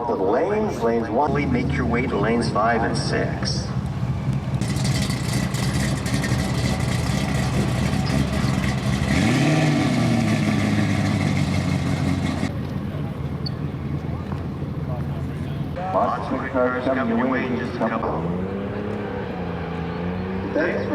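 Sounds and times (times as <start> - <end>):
car engine revving: 1.1 - 12.5, 13.2 - 20.9.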